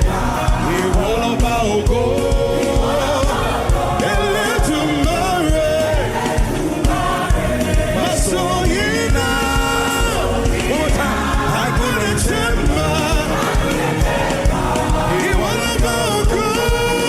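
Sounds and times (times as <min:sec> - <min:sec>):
steady drum beat: 0:00.0 - 0:17.0
voices singing praise chant: 0:00.0 - 0:17.0.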